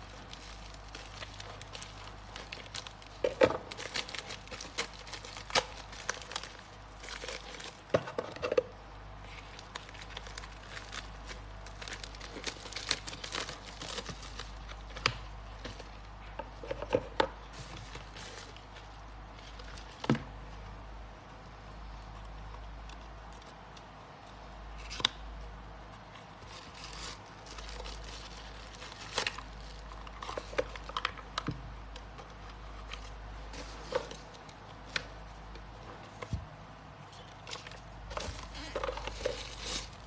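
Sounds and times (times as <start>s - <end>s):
packaging crinkling and rustling: 0.0s - 20.4s, 26.0s - 36.5s, 37.1s - 40.0s.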